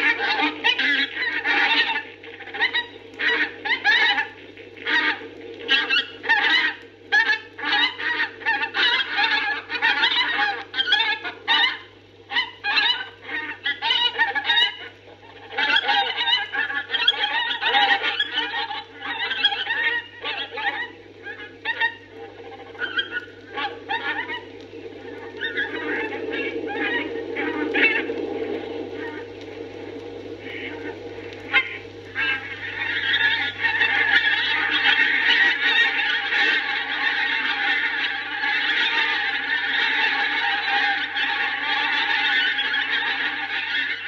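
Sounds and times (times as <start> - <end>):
geese cackling and honking: 0.0 - 44.0
low record hum: 0.0 - 44.0.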